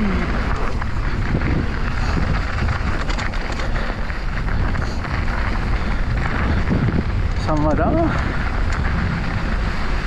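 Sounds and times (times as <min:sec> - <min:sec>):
bike tyres crunching on gravel: 0:00.0 - 0:10.0
wind noise on microphone: 0:00.0 - 0:10.0
small clicks and knocks from bumps: 0:00.5 - 0:09.0.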